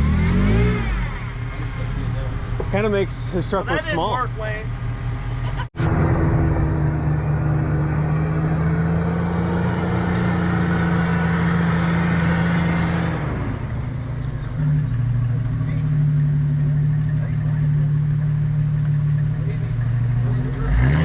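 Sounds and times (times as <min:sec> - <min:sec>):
truck engine revving high: 0:00.0 - 0:21.0.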